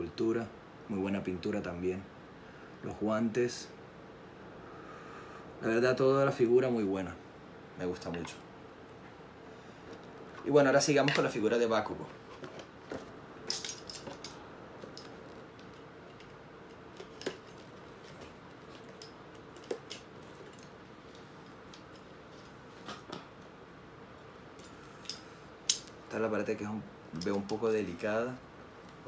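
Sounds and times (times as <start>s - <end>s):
faint room noise: 0.0s - 29.0s.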